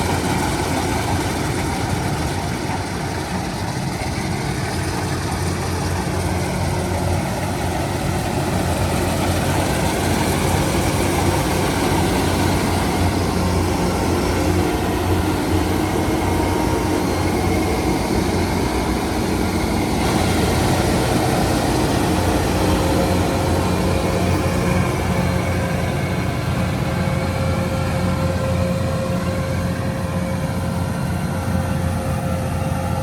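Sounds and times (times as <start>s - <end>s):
heavy engine droning: 0.0s - 33.0s.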